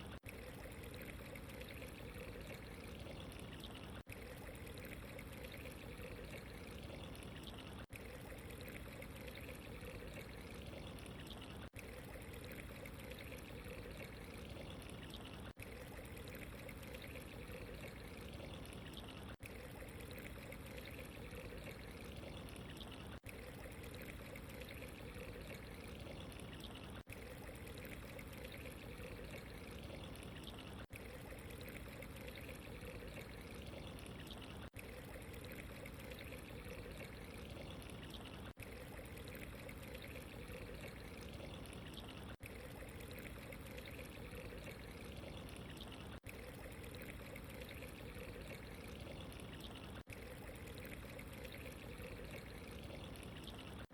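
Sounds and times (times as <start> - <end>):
running water trickling: 0.0 - 53.9.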